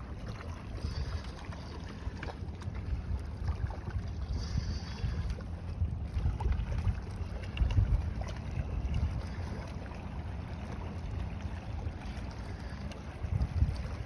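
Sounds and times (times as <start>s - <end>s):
wind buffeting the microphone: 0.0s - 14.0s.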